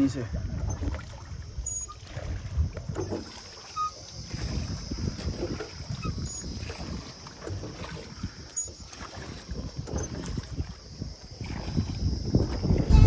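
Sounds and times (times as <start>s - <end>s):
water lapping around a boat: 0.0s - 13.0s
wind buffeting microphone: 0.0s - 13.0s.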